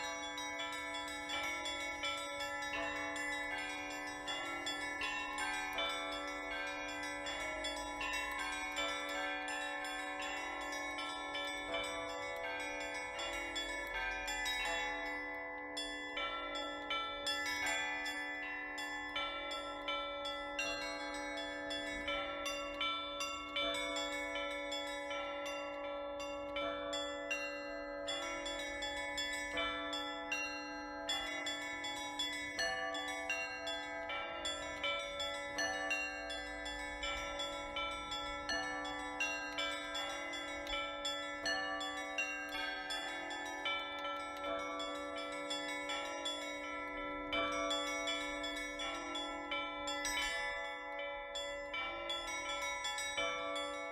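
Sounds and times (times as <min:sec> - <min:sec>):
small church bells striking: 0:00.0 - 0:53.9.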